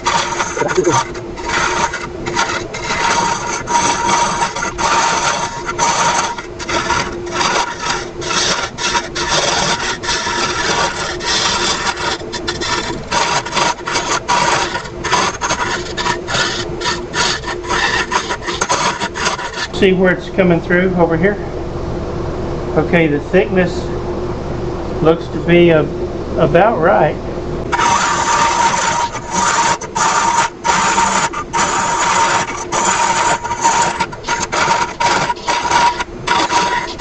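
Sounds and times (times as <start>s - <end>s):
lathe tool scraping wood: 0.0s - 21.4s, 27.7s - 37.0s
wood lathe humming: 0.0s - 21.4s, 27.6s - 37.0s.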